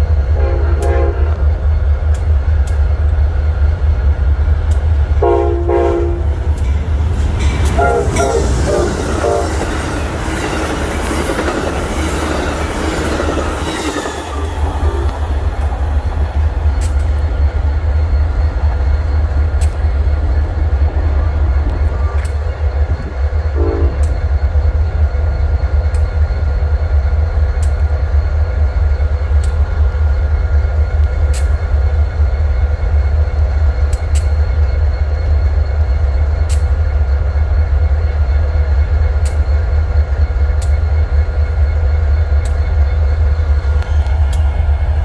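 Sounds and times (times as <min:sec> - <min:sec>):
train rumbling by: 0:00.0 - 0:45.0.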